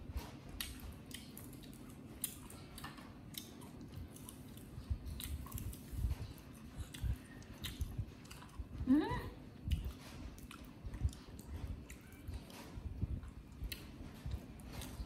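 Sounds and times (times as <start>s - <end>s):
crunchy chewing: 0.1s - 8.8s, 9.5s - 15.0s.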